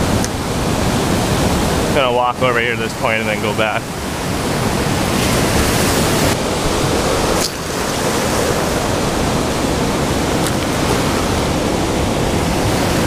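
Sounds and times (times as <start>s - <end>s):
ocean surf on cobble beach: 0.0s - 13.0s.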